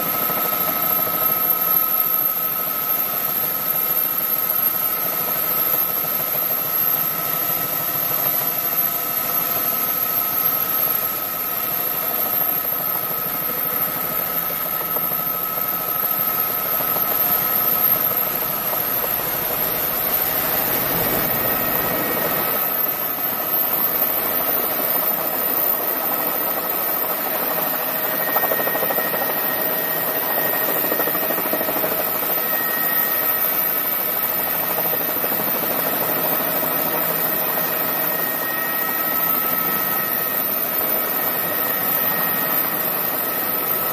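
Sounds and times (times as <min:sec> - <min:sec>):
helicopter turbine and rotor: 0:00.0 - 0:43.9.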